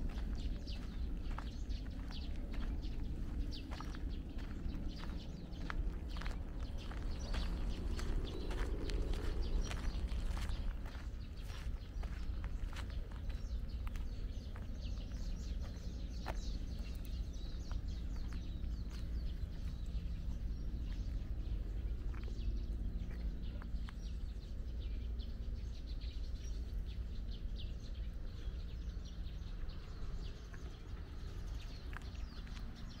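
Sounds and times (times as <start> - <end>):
footsteps on path: 0.0 - 33.0
small birds chirping: 0.0 - 33.0
steady low rumble: 0.0 - 33.0.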